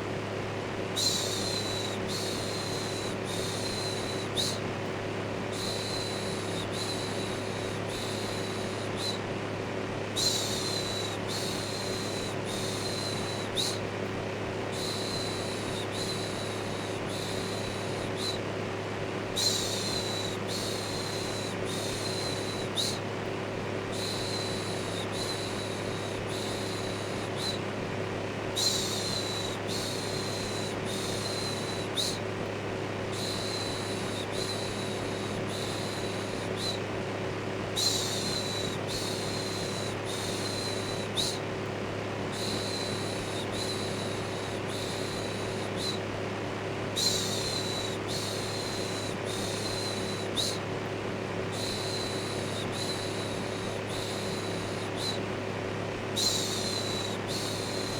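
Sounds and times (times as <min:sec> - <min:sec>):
electric fan whirring: 0:00.0 - 0:57.9.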